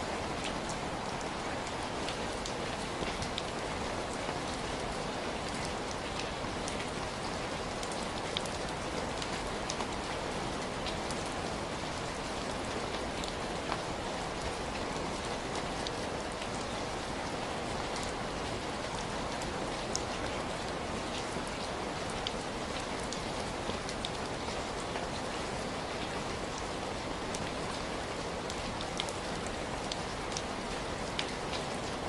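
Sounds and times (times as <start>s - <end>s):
heavy rain falling: 0.0s - 32.0s
raindrops ticking on a surface: 0.0s - 32.0s.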